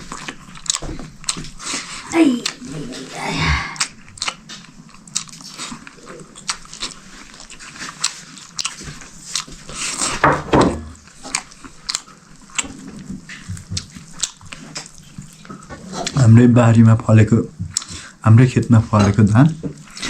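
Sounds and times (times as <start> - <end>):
person chewing and crunching food: 0.0 - 10.2, 10.9 - 16.4, 17.5 - 20.0.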